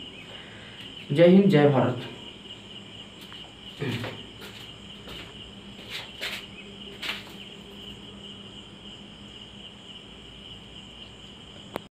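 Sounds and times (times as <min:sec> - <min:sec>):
crickets trilling: 0:00.0 - 0:11.9.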